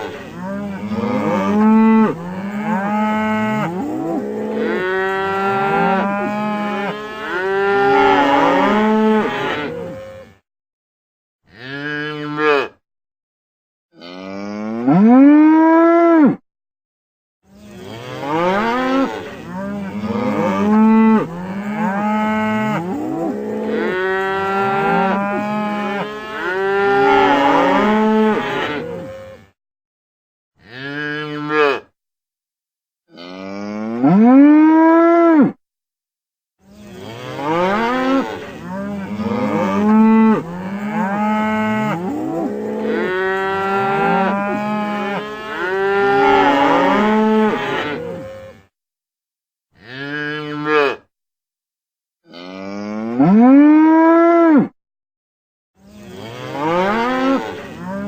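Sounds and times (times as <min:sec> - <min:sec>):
cows mooing: 0:00.0 - 0:10.4, 0:11.5 - 0:12.8, 0:14.0 - 0:16.4, 0:17.5 - 0:29.6, 0:30.6 - 0:31.9, 0:33.1 - 0:35.5, 0:36.7 - 0:48.7, 0:49.8 - 0:51.0, 0:52.3 - 0:54.7, 0:55.8 - 0:58.0.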